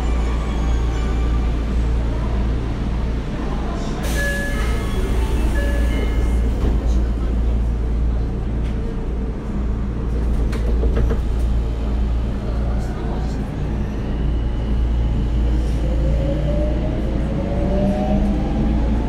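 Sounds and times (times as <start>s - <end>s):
subway car wheels rumbling: 0.0s - 19.0s.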